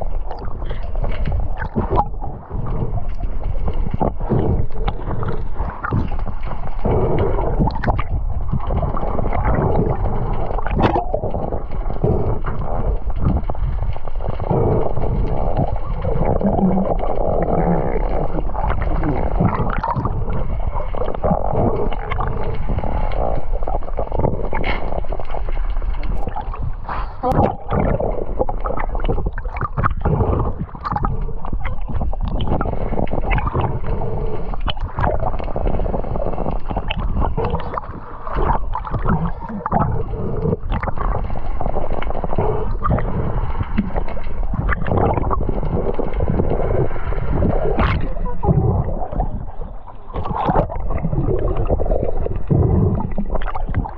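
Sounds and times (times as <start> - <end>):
water gurgling underwater: 0.0 - 53.9.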